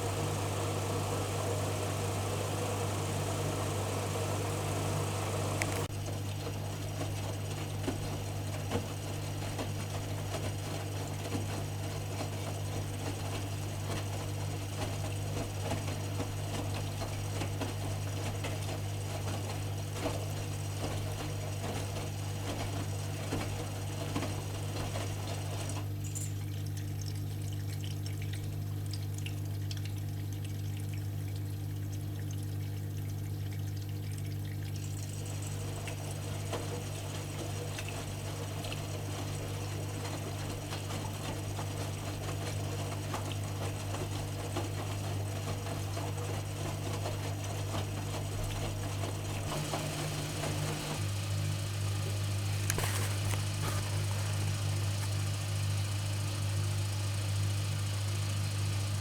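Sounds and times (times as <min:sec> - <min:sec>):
washing machine hum: 0:00.0 - 0:59.0.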